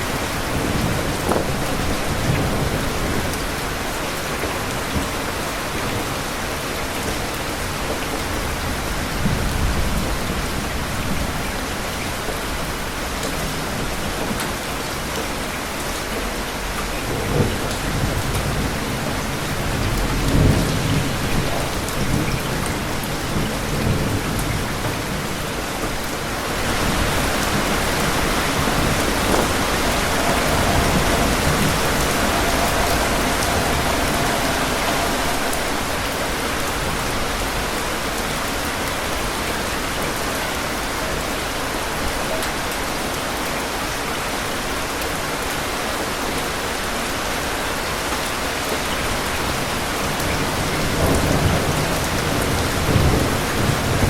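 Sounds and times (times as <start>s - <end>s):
low rumbling thunder: 0.0s - 41.2s, 48.9s - 54.0s
heavy rain: 0.0s - 54.0s.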